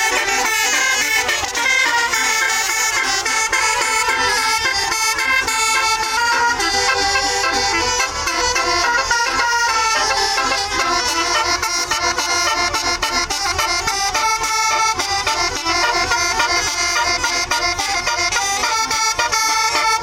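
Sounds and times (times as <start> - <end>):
bus horn playing a melody: 0.0 - 20.0.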